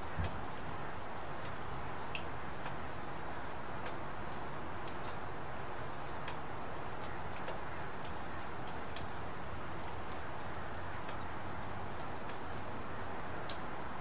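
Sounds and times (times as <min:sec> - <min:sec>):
raindrops ticking: 0:00.0 - 0:14.0
steady rain hiss: 0:00.0 - 0:14.0.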